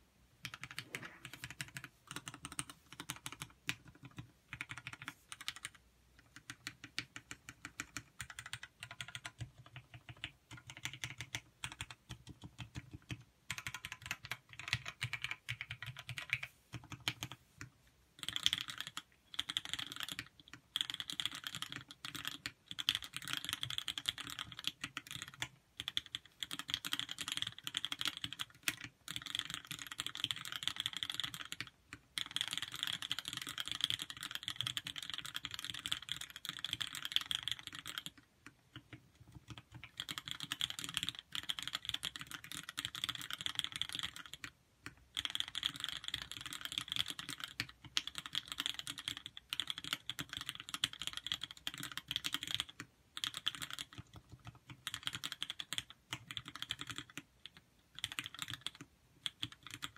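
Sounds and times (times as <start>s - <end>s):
mechanical keyboard typing: 0.4s - 59.9s.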